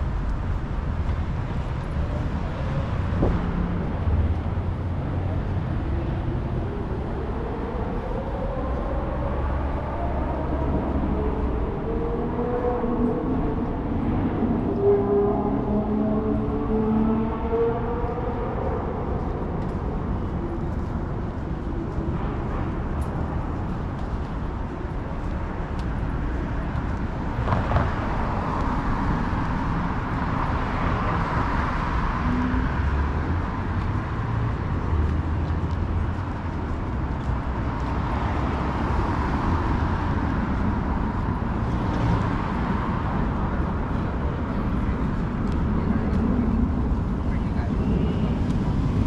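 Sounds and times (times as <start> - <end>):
passing cars: 0.0 - 49.0.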